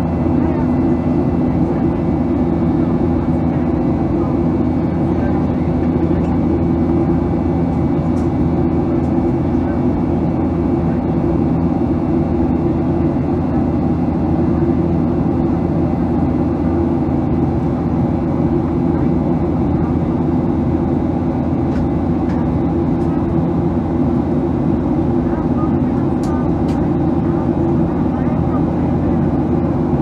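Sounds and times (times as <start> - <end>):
airplane cabin engine drone: 0.0 - 30.0.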